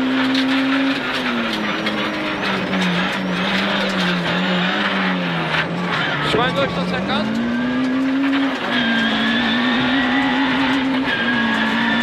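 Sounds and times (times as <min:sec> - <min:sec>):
rally car engine revving high: 0:00.0 - 0:12.0.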